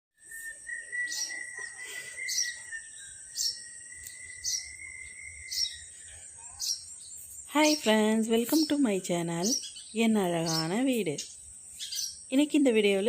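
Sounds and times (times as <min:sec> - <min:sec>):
bird chirping: 0:00.2 - 0:13.0.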